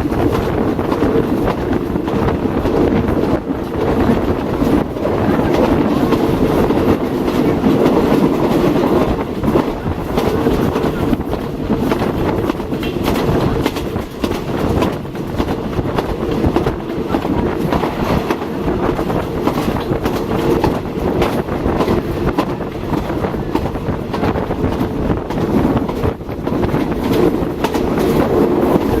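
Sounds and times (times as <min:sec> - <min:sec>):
train carriage rumble: 0:00.0 - 0:29.0
wheels clicking over rail joints: 0:00.0 - 0:29.0.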